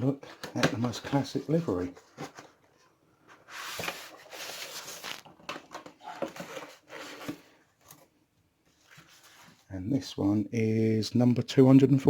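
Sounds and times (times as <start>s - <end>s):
cardboard and plastic rustling: 0.0s - 9.7s.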